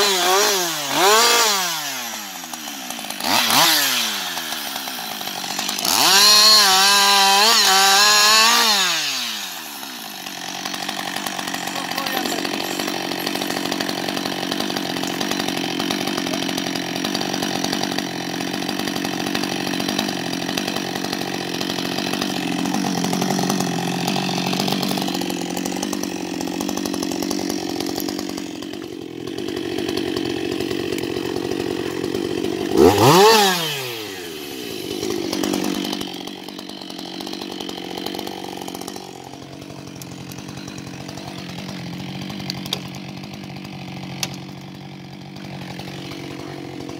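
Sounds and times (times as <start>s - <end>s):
chainsaw idling and revving: 0.0s - 46.9s.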